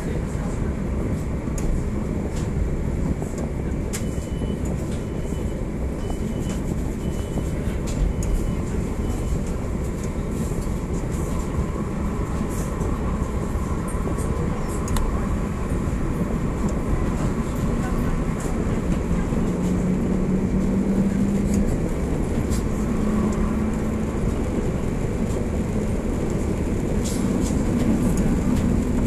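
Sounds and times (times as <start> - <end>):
tram wheels rumbling on rail: 0.0 - 29.0.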